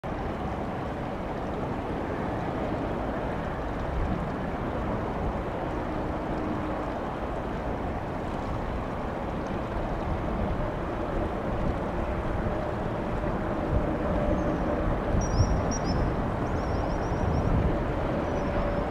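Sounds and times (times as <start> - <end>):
wind on microphone: 0.1 - 18.9.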